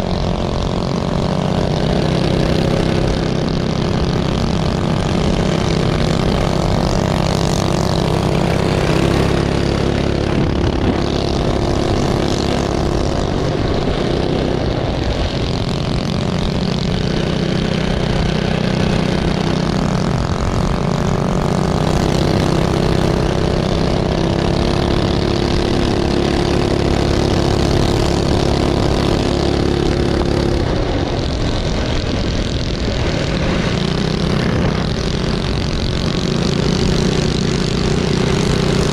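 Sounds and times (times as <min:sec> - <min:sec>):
minibike engines revving: 0:00.0 - 0:38.9.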